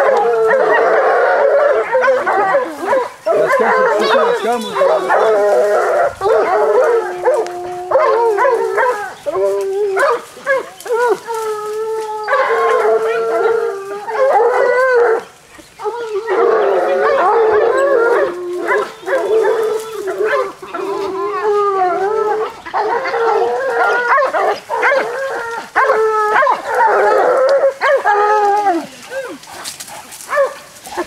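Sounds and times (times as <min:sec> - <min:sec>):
hounds baying: 0:00.0 - 0:31.0.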